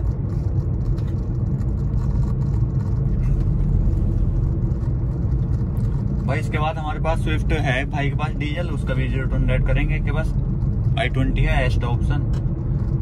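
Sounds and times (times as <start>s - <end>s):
car engine steady note: 0.0s - 13.0s
road and tyre rumble: 0.0s - 13.0s.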